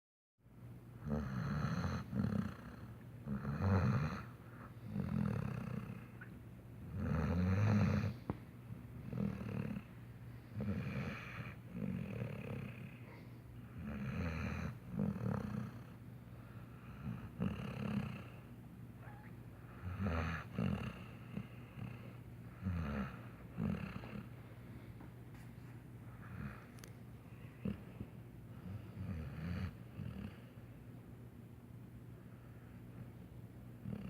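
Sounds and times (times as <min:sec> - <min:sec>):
puppy snoring: 0:01.0 - 0:08.4, 0:09.0 - 0:24.4, 0:26.1 - 0:30.5, 0:33.8 - 0:34.0.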